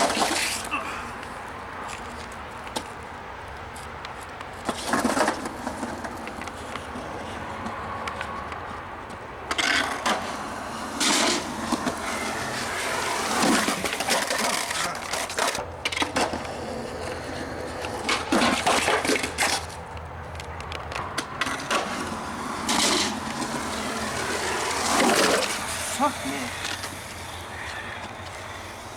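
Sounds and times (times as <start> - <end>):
skateboard clacking on ground: 0.0 - 28.9
skateboard wheels rolling: 0.0 - 28.9.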